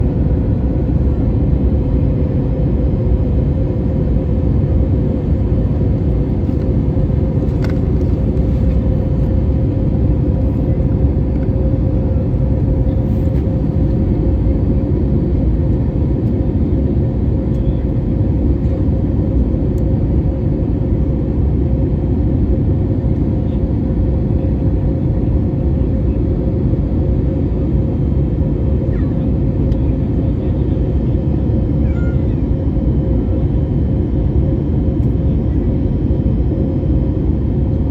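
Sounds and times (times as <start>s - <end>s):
airliner engines and rushing air: 0.0s - 37.9s
constant hum: 0.0s - 37.9s.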